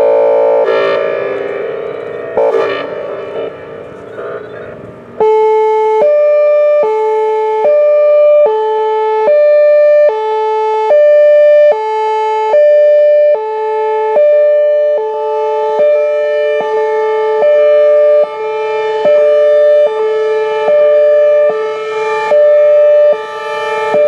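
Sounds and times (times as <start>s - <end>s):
warning siren alternating high and low: 0.0s - 24.0s.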